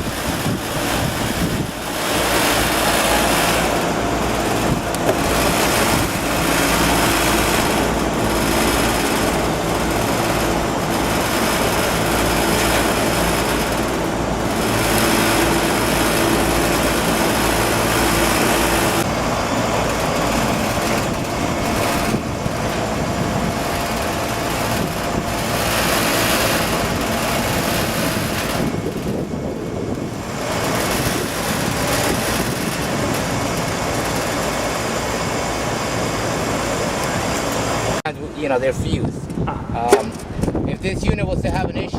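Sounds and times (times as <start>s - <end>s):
hvac fan and motor noise: 0.0s - 41.9s.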